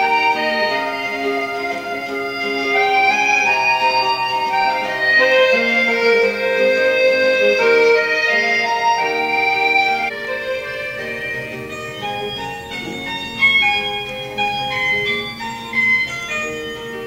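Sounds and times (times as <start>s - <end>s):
slow instrumental melody: 0.0s - 17.0s.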